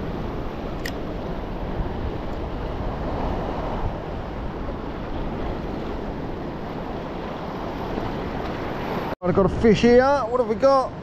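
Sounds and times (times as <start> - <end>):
sea waves washing on shore: 0.0 - 11.0
wind rumbling on microphone: 0.0 - 11.0.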